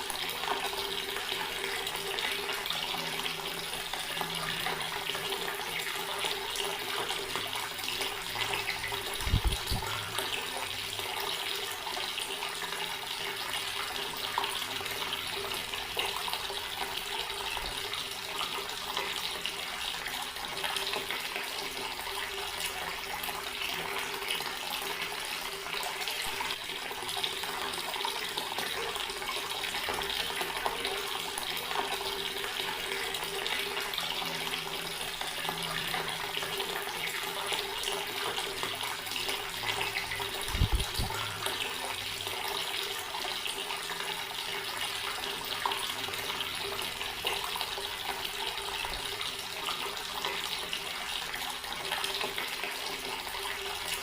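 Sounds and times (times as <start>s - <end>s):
water running from a tap: 0.0s - 54.0s.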